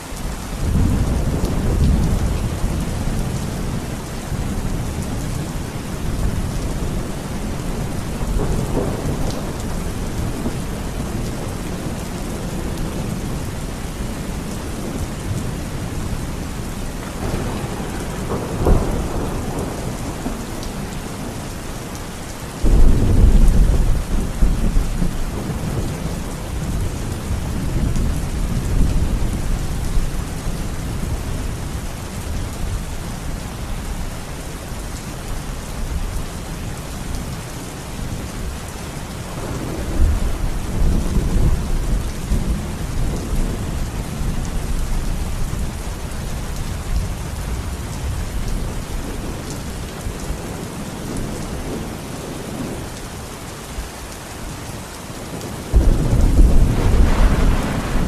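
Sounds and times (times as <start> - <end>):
steady rain falling: 0.0 - 58.0
low rolling thunder: 0.6 - 21.5, 22.6 - 34.1, 39.3 - 52.8, 55.3 - 58.0.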